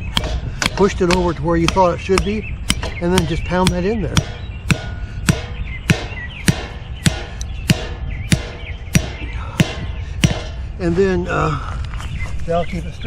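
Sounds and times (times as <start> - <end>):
wood pounding into soil: 0.0 - 10.6.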